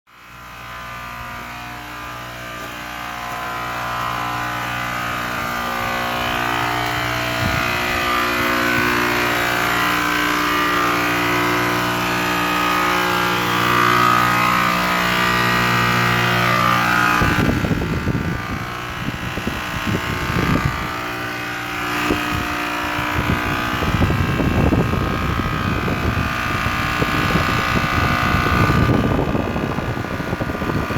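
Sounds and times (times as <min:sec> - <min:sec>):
hvac unit humming: 0:00.1 - 0:30.9
uneven low rumble: 0:00.2 - 0:30.9.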